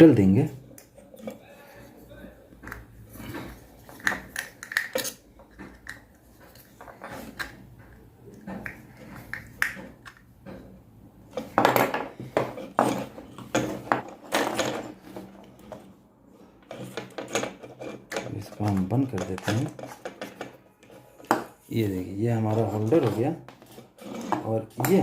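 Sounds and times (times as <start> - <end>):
electrical parts clicking and knocking: 2.5 - 21.6, 22.2 - 25.0.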